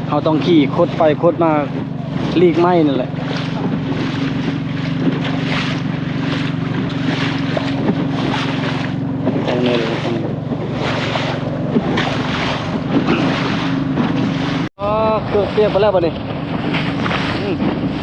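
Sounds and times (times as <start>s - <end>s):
boat engine running: 0.0s - 18.0s
water surging: 0.0s - 18.0s
wind buffeting microphone: 0.0s - 18.0s.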